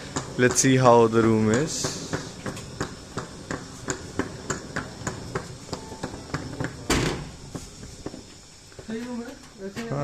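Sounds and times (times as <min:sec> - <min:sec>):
footsteps on a hard floor: 0:01.5 - 0:09.9.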